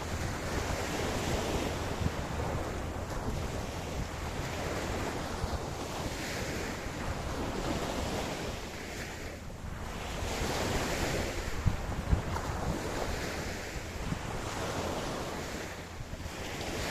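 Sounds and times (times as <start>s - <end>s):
waves breaking on beach: 0.0s - 16.9s
wind rumble on microphone: 0.0s - 16.9s.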